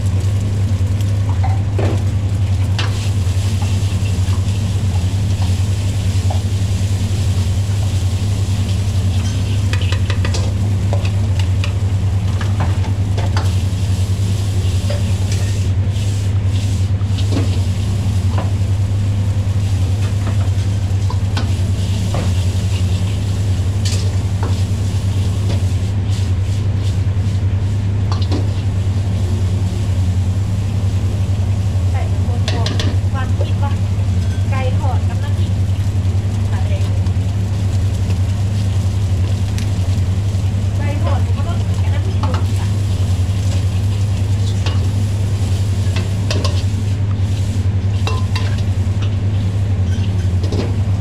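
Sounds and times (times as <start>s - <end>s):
food sizzling: 0.0s - 50.9s.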